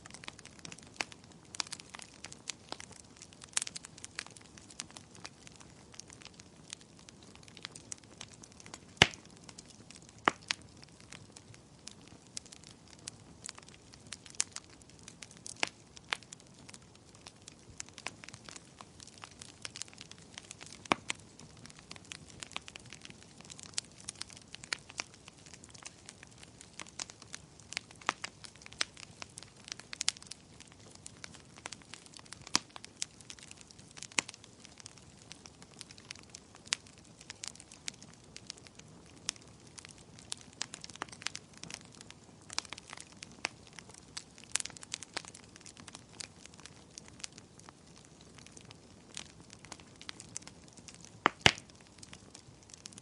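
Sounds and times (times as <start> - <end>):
soft hiss of flames: 0.0 - 53.0
wood fire crackling: 0.0 - 53.0.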